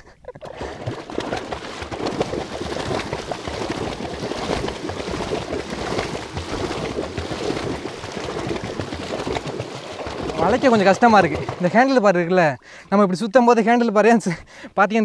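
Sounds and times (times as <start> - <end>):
pedal boat churning water: 0.3 - 12.5.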